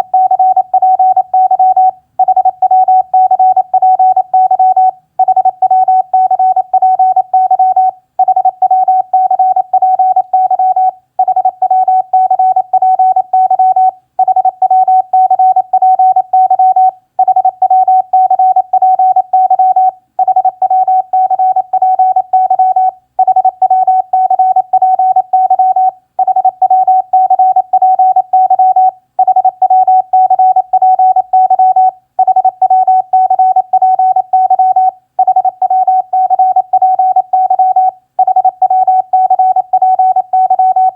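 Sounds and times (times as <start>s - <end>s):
morse code tone: 0.0s - 40.9s.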